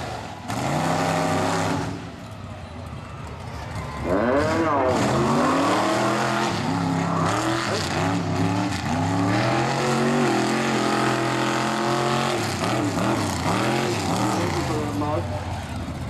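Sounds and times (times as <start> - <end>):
truck engine revving hard: 0.0 - 2.2, 3.8 - 16.0.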